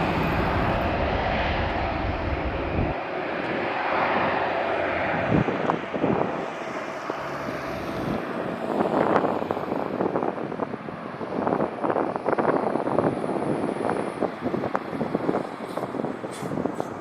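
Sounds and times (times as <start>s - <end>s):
jet engine roar: 0.0s - 17.0s
wind buffeting microphone: 0.0s - 17.0s.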